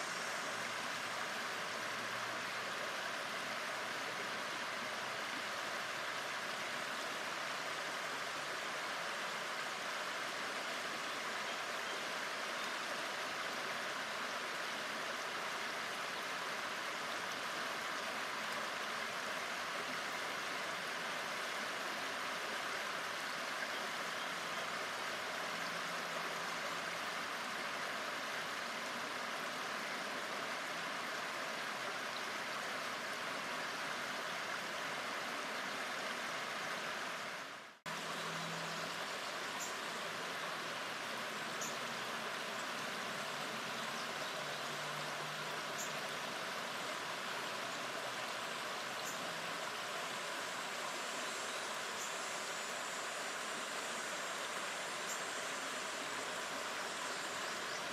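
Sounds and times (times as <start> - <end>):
river water rushing over stones: 0.0 - 57.9.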